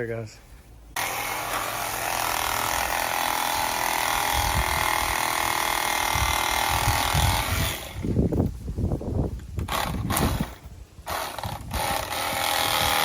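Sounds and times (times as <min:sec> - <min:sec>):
power tool cutting plastic: 0:01.0 - 0:08.0, 0:09.6 - 0:13.0.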